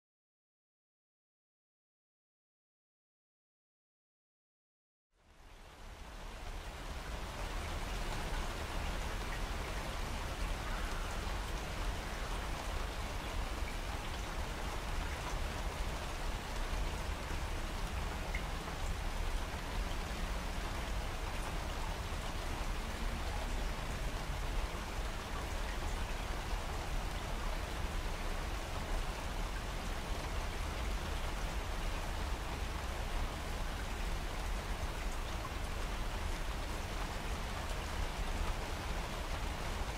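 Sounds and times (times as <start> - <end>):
steady rain hiss: 5.2 - 39.9.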